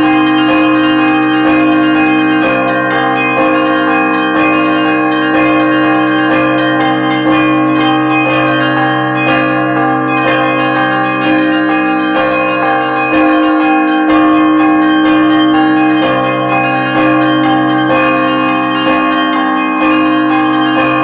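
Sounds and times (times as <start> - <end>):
church bells ringing: 0.0 - 21.0
deep hum of large bell: 0.0 - 21.0.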